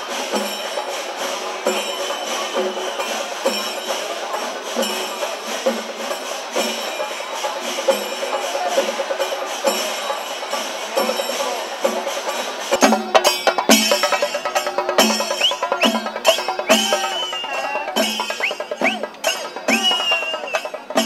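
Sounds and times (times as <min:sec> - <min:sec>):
drum strokes in even beat: 0:00.0 - 0:21.0
hand cymbals clashing: 0:00.0 - 0:21.0.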